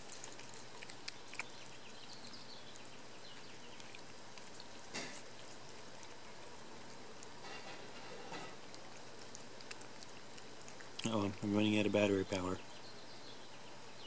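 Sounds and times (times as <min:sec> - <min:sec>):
cat chewing wet food: 0:00.0 - 0:12.7.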